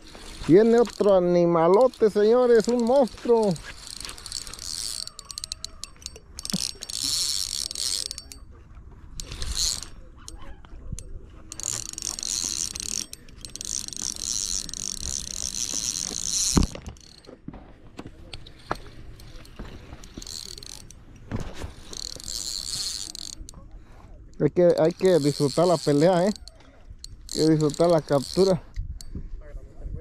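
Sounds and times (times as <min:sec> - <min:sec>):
fishing reel whirring and clicking: 0:00.0 - 0:08.5, 0:09.1 - 0:17.3, 0:18.2 - 0:23.7, 0:24.3 - 0:29.1.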